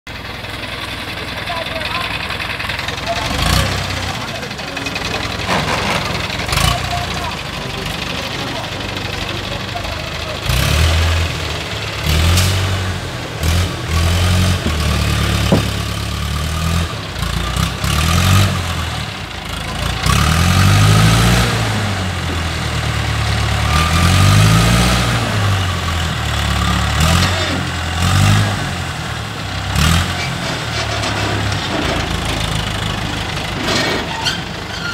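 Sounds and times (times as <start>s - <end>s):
crane diesel engine revving: 0.1s - 34.9s.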